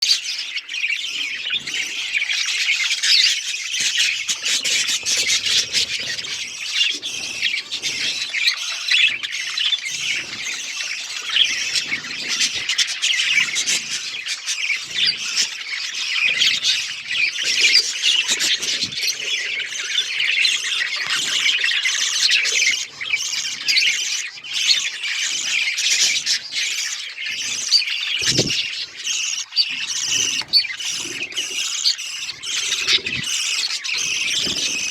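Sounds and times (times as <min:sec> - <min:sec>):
budgerigars chirping: 0:00.0 - 0:34.9.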